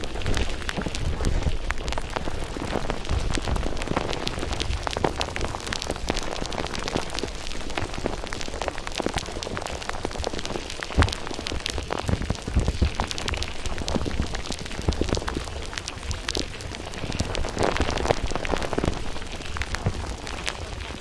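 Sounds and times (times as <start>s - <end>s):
water splashing and crackling: 0.0s - 21.0s.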